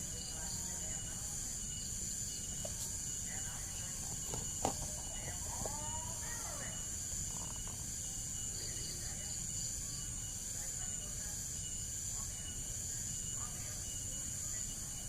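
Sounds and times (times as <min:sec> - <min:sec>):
faint chirps: 0:00.0 - 0:15.0
insects droning: 0:00.0 - 0:15.0.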